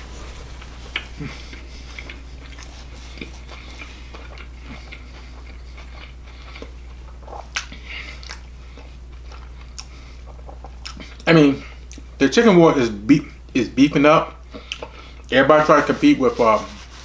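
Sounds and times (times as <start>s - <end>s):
steady low hum: 0.0s - 17.0s
person chewing crispy food: 0.3s - 12.2s, 14.4s - 17.0s.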